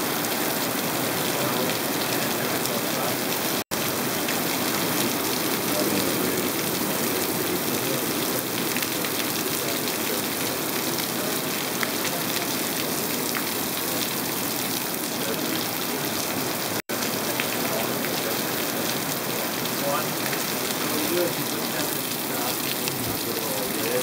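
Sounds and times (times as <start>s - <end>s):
heavy rain on ground: 0.0s - 24.0s.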